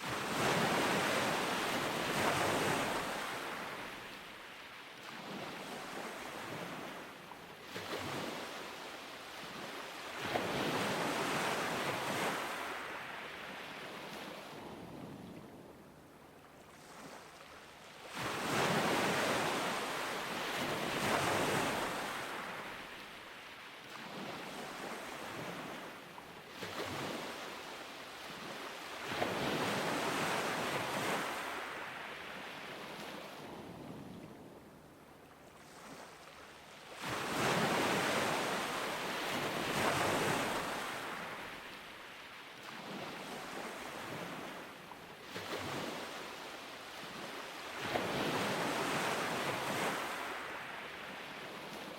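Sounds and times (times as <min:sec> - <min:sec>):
ocean waves breaking on beach: 0:00.0 - 0:51.9.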